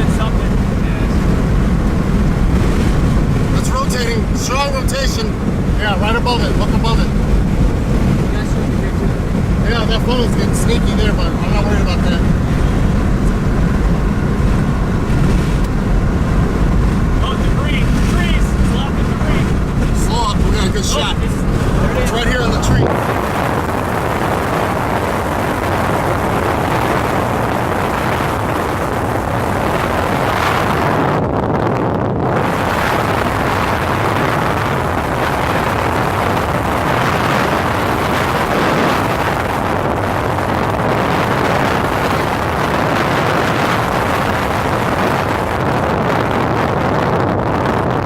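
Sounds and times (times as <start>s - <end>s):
road and wind noise: 0.0s - 48.0s.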